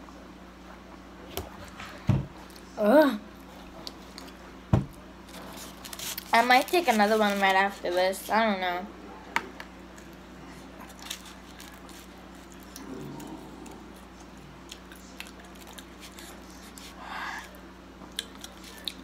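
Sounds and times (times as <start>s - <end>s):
steady low hum: 0.0s - 19.0s
chewing pizza: 0.7s - 8.3s, 9.0s - 19.0s.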